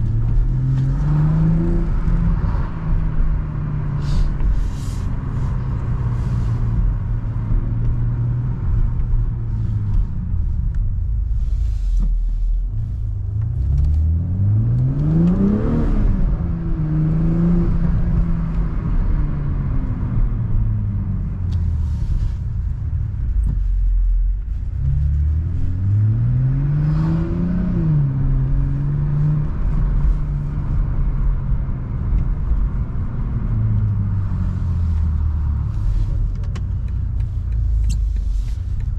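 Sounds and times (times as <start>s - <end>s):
car engine accelerating hard: 0.0s - 23.6s, 24.5s - 38.9s
road noise: 0.0s - 38.9s.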